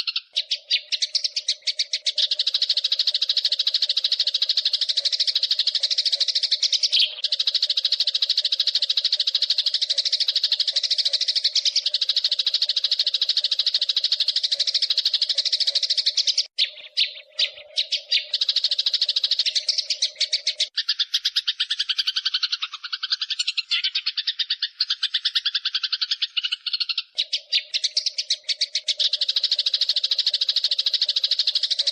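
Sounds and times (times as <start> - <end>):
sparrow rattling chatter: 0.0 - 31.9.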